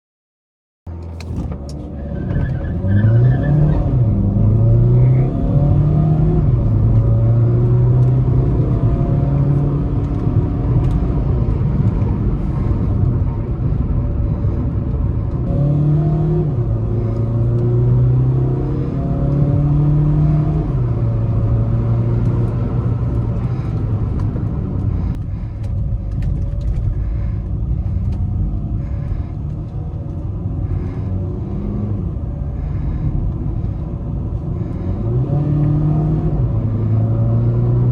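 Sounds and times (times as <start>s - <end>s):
diesel engine accelerating with upshifts: 0.9s - 37.9s.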